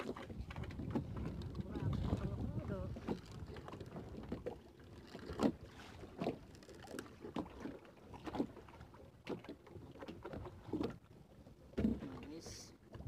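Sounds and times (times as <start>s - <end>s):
knocks and splashes against boat: 0.0s - 13.0s.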